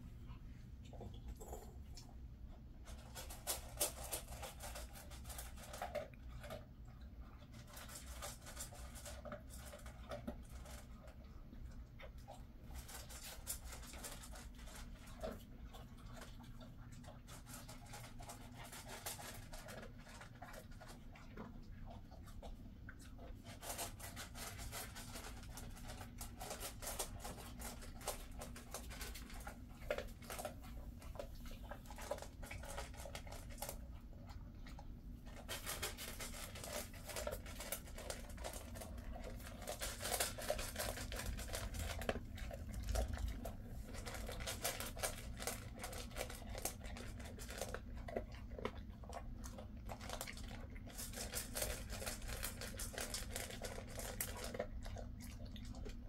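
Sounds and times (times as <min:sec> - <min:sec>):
dog crunching kibble: 0:00.9 - 0:56.0.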